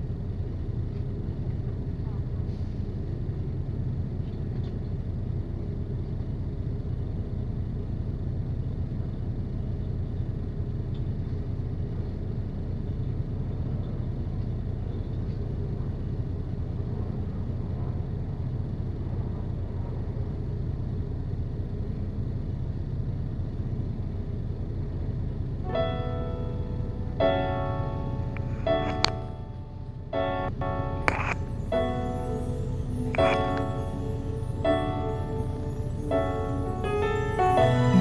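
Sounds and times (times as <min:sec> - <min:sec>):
vehicle engine idling: 0:00.0 - 0:38.0.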